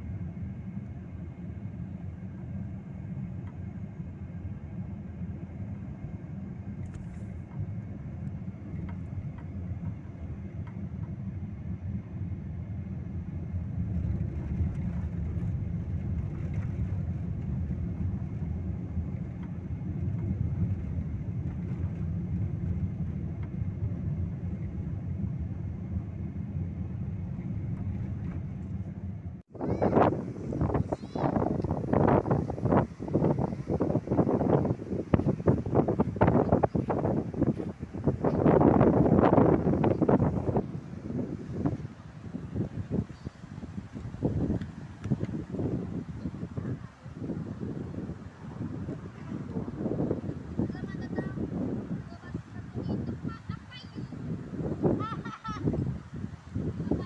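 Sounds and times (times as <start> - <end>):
car interior road rumble: 0.0 - 57.0.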